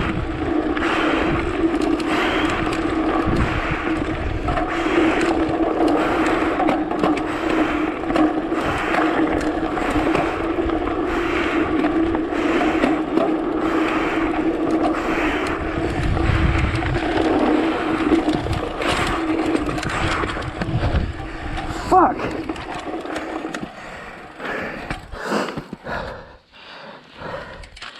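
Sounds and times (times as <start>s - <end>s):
bike tyres scraping over dirt: 0.0s - 26.3s
bike rattling clicks and knocks: 0.0s - 26.4s, 27.1s - 27.9s.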